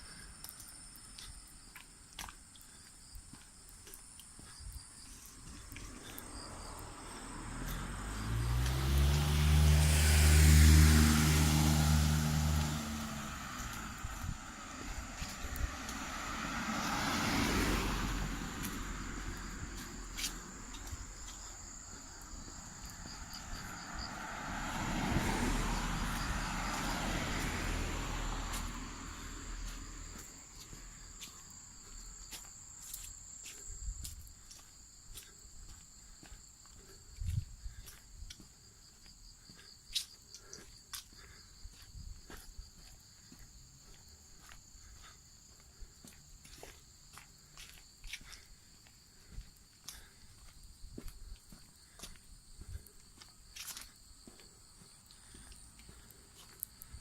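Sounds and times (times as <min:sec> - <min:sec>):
insects trilling: 0:00.0 - 0:57.0
vehicles passing: 0:00.1 - 0:57.0
light footsteps: 0:00.4 - 0:09.3, 0:12.4 - 0:16.6, 0:18.0 - 0:57.0.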